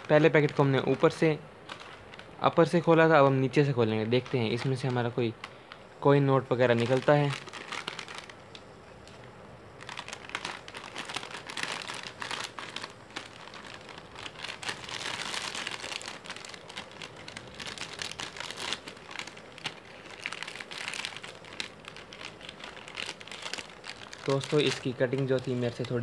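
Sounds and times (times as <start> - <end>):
foil packet crinkling: 0.0 - 26.0.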